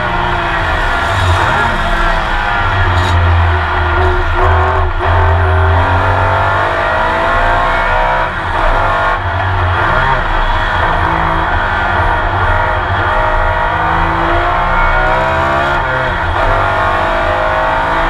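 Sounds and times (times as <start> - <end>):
racing engine under load: 0.0 - 18.0.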